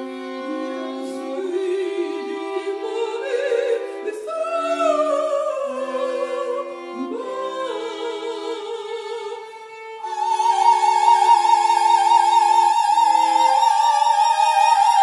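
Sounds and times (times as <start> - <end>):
operatic soprano singing: 0.0 - 15.0
violin: 0.0 - 15.0.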